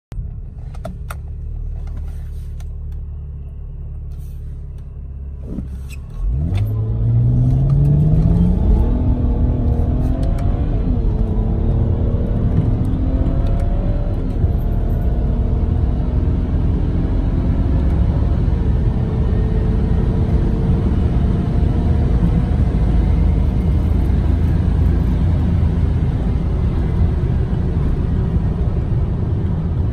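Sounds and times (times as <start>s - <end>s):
car engine accelerating: 1.2s - 29.9s.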